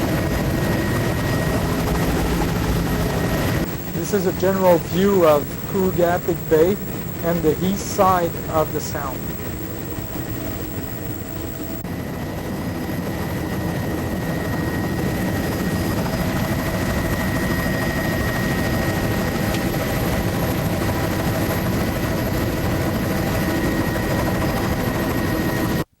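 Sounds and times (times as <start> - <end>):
thin steady whine: 0.0 - 22.4
aircraft engine drone in cabin: 0.0 - 25.9.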